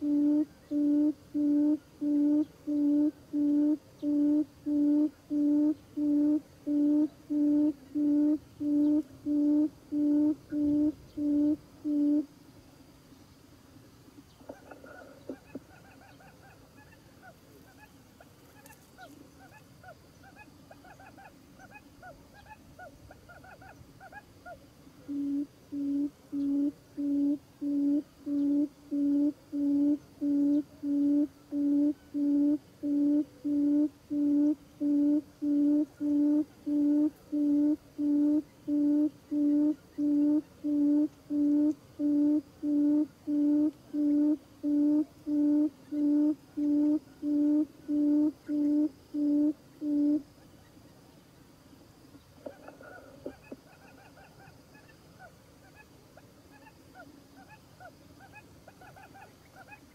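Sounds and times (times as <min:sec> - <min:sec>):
low deep bird hoots: 0:00.0 - 0:12.3, 0:14.3 - 0:18.0, 0:18.6 - 0:50.3, 0:52.4 - 0:55.9.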